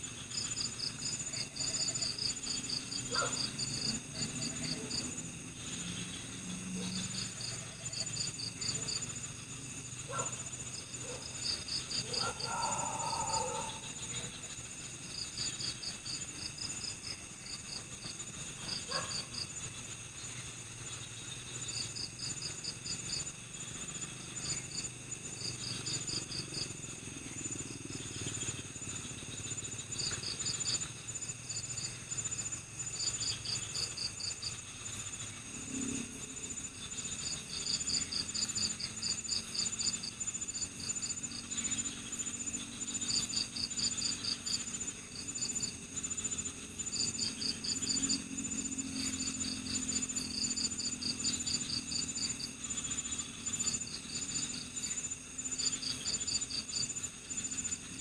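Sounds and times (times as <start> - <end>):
crickets chirping rapidly: 0.0 - 58.0
insects trilling: 0.0 - 58.0.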